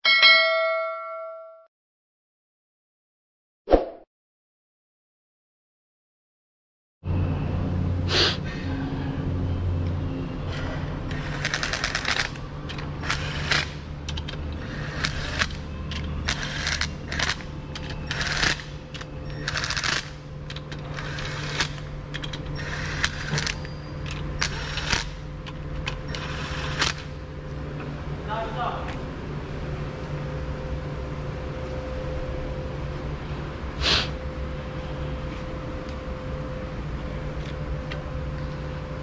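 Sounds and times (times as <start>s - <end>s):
steady low hum: 7.0s - 39.0s.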